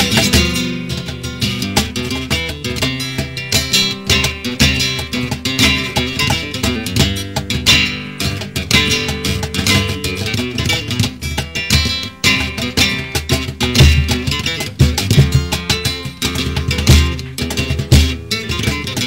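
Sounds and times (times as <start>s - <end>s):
flamenco guitar playing: 0.0s - 19.0s.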